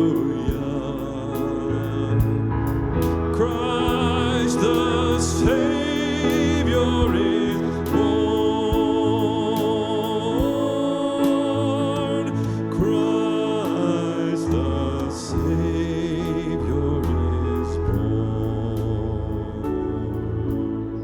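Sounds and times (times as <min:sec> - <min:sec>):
person singing with vibrato: 0:00.0 - 0:21.0
sustained instrumental accompaniment: 0:00.0 - 0:21.0.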